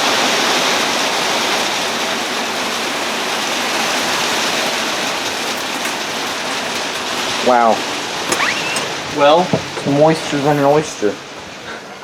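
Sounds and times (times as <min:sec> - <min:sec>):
heavy rain on metal roof: 0:00.0 - 0:12.0.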